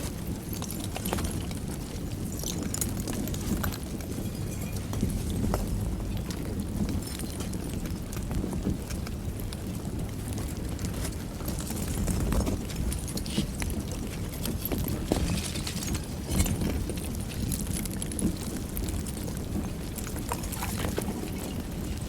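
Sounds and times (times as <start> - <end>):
lava crust crackling and clinking: 0.0 - 22.0.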